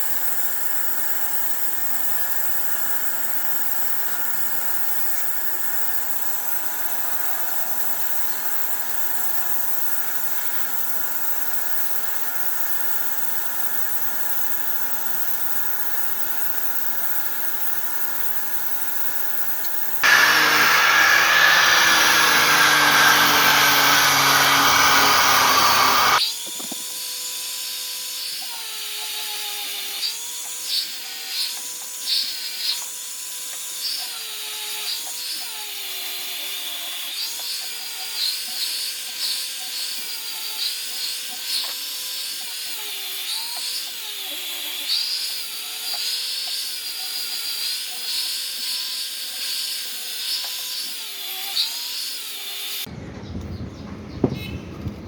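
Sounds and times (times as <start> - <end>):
electric power tool running: 0.0 - 52.9.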